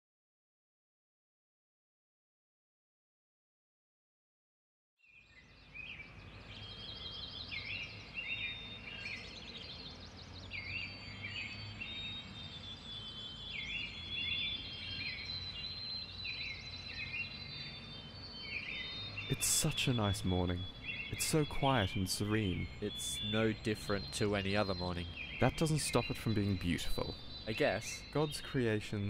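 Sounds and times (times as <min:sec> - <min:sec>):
birds chirping and whistling: 0:05.2 - 0:29.0.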